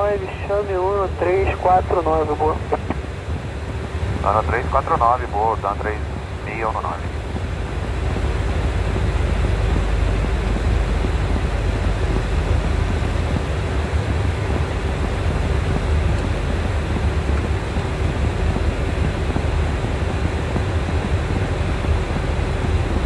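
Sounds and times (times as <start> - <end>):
airliner engines rumbling: 0.0 - 23.0
faint steady hum: 0.0 - 23.0.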